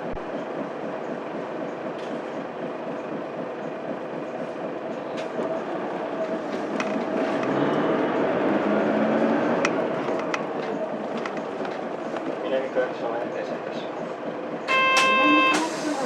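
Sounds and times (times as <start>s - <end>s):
bus diesel engine: 0.0s - 16.0s
road rumble: 0.0s - 16.0s.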